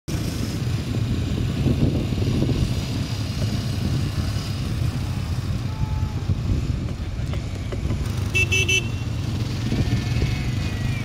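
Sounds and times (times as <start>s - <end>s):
motorcycle engine passing: 0.1s - 11.0s.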